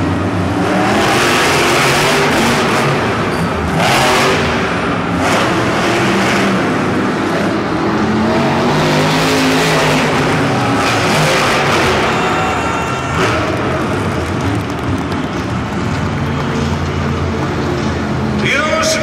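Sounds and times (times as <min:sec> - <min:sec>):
truck engines revving hard: 0:00.0 - 0:19.0.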